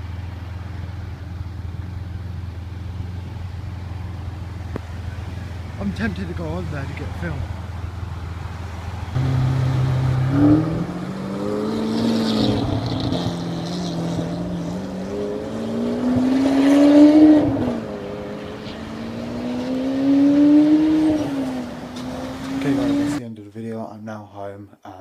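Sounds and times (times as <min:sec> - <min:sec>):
sports car engine revving: 0:00.0 - 0:23.2.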